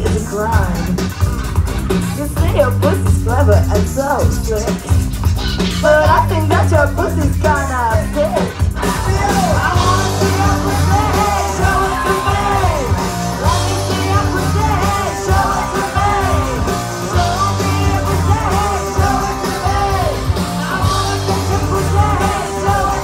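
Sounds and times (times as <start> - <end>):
electronic rock band playing live: 0.0 - 23.0
heavy bass beat: 0.0 - 23.0
high wailing voices: 4.2 - 23.0.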